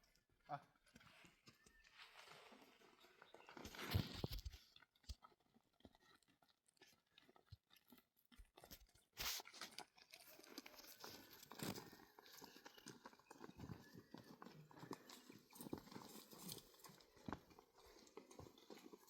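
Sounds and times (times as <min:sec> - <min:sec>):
crunching and rustling: 0:01.0 - 0:19.0.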